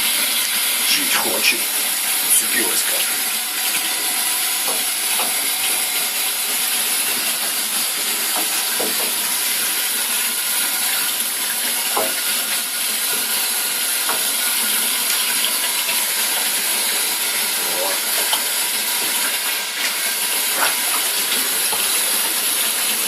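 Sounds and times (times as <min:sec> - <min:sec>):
running water: 0:00.0 - 0:23.0.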